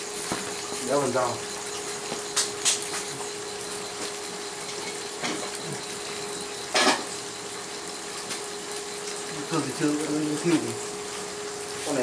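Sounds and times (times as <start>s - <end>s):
cooktop hum: 0.0s - 12.0s
liquid simmering in frying pan: 0.0s - 12.0s.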